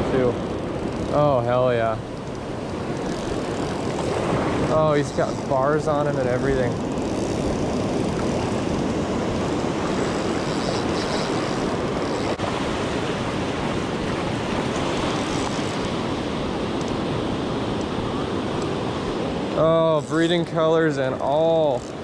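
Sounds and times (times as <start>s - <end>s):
ocean waves breaking on beach: 0.0s - 22.0s.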